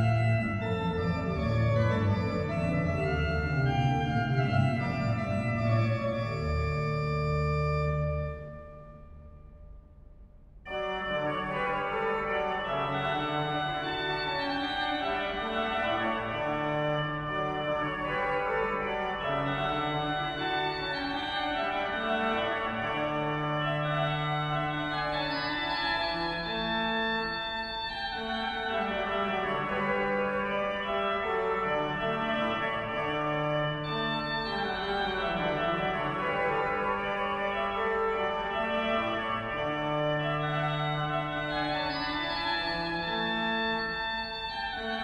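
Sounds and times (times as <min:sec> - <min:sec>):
organ music with sustained chords: 0:00.0 - 0:09.8, 0:10.7 - 0:45.0.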